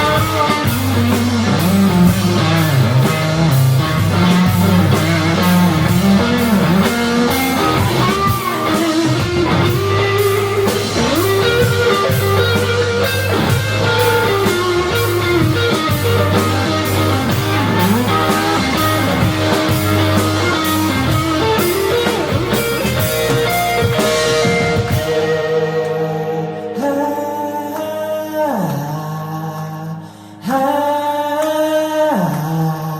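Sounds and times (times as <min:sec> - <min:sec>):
drum kit cymbal beat: 0:00.0 - 0:28.8
bass guitar: 0:00.0 - 0:32.9
electric guitar melody: 0:00.0 - 0:32.9.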